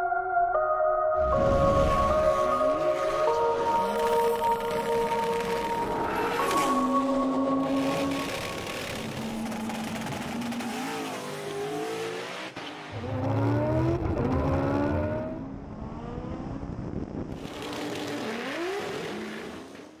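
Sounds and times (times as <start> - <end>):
race car engines accelerating: 2.2 - 20.0.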